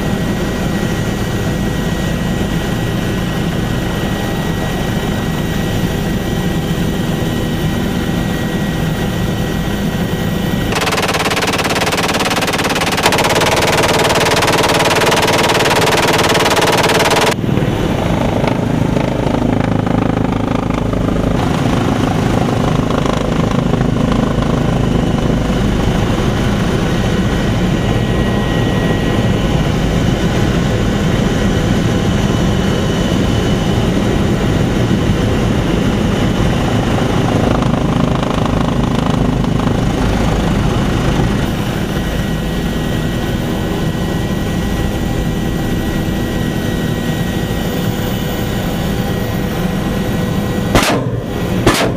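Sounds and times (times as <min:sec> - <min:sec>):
helicopter engine and rotor: 0:00.0 - 0:51.7.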